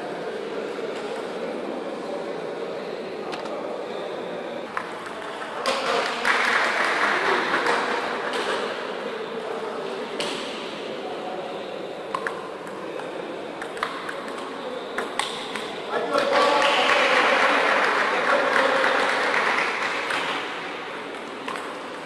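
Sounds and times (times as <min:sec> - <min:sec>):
general hall noise: 0:00.0 - 0:22.0.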